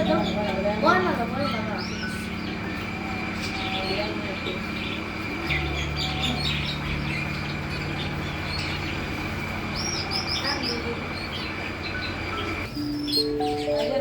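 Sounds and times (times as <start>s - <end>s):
steady low hum: 0.0s - 13.0s
birds chirping and twittering: 0.0s - 14.0s.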